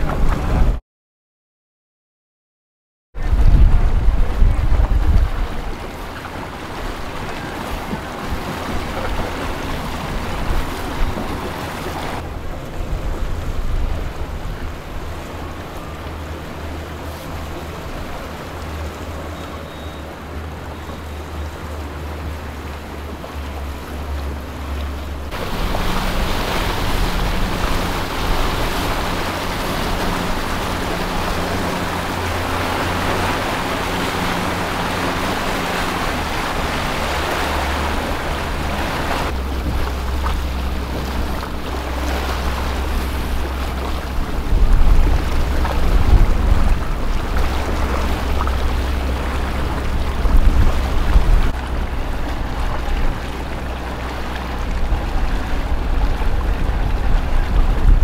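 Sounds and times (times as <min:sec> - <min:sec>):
motorboat engines humming: 0:00.0 - 0:00.8, 0:03.2 - 0:58.0
water wash: 0:00.0 - 0:00.8, 0:03.2 - 0:58.0
wind noise on microphone: 0:00.0 - 0:00.8, 0:03.2 - 0:21.0, 0:23.5 - 0:58.0.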